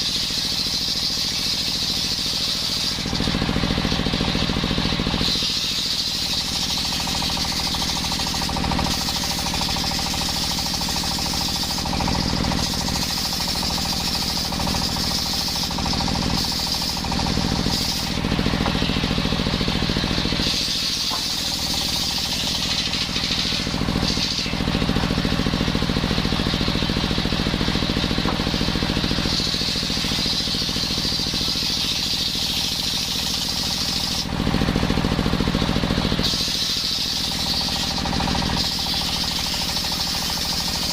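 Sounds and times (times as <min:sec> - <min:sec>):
saw blade cutting wood: 0:00.0 - 0:40.9.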